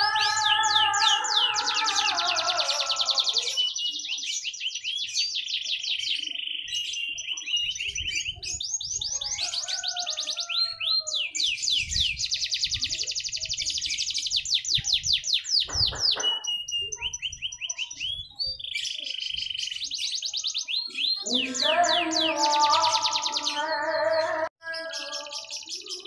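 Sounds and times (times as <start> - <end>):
canary singing trilled song: 0.0 - 26.0.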